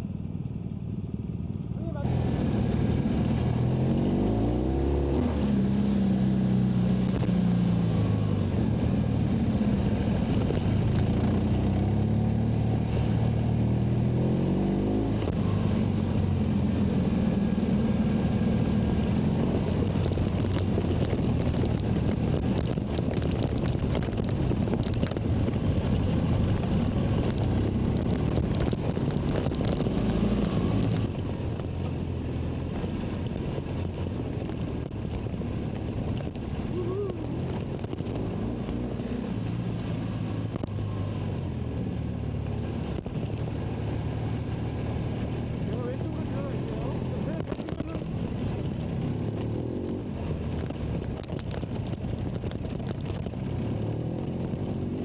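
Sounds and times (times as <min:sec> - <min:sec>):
wind and road noise: 0:00.0 - 0:55.0
motorcycle engine revving: 0:01.8 - 0:55.0.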